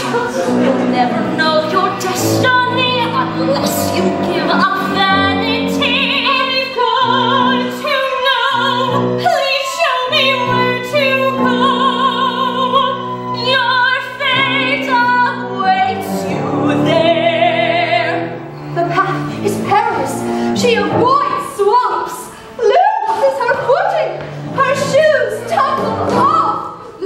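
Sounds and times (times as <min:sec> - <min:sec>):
woman singing operatically: 0:00.0 - 0:26.8
instrumental accompaniment: 0:00.0 - 0:27.0.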